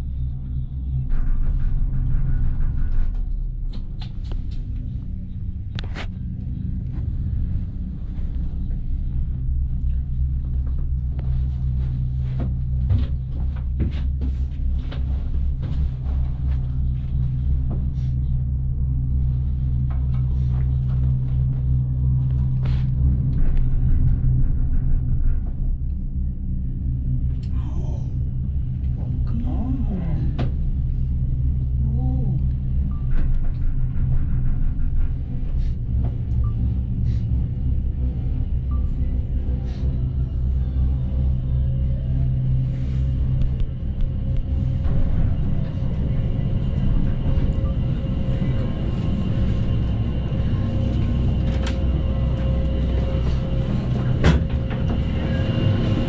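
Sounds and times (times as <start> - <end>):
gondola cabin rumbling: 0.0 - 56.0.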